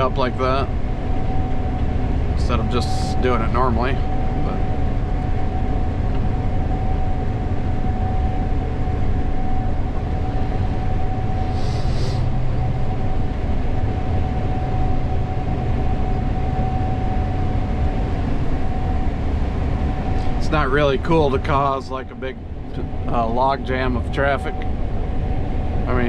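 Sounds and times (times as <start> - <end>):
combine harvester droning: 0.0 - 26.0
steady whine: 0.0 - 26.0.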